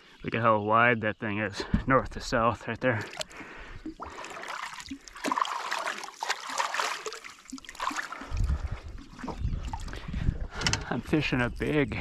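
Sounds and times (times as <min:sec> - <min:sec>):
water splashing and trickling: 0:01.7 - 0:12.0.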